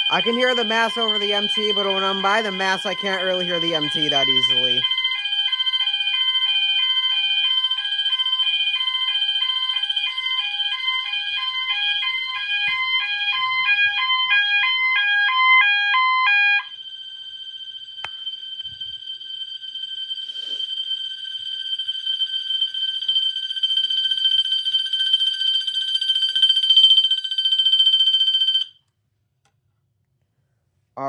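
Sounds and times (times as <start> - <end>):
fire alarm bell tone: 0.0 - 28.8
high-low fire alarm tone: 0.0 - 28.8.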